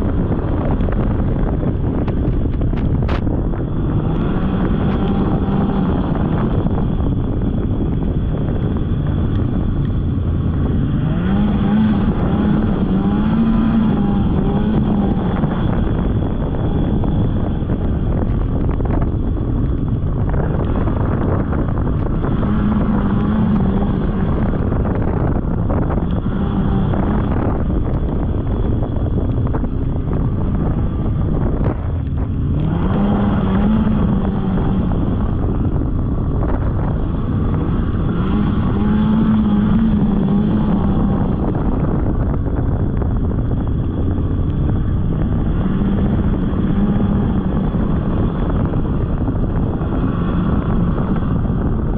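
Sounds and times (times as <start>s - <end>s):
snowmobile engine revving: 0.0s - 51.9s
wind noise on microphone: 0.0s - 51.9s.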